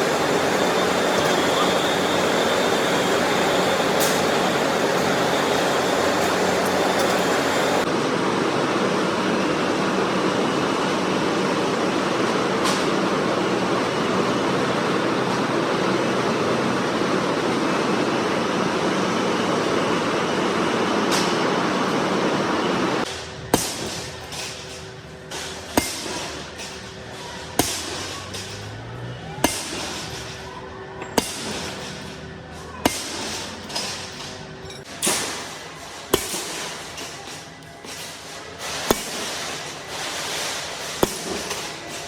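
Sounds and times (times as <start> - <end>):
rolling mill machinery noise: 0.0 - 42.0.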